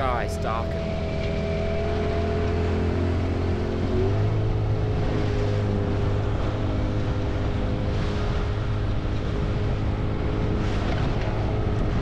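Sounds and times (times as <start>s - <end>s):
boat engine running: 0.0s - 12.0s
sea noise: 0.0s - 12.0s
wind: 0.0s - 12.0s.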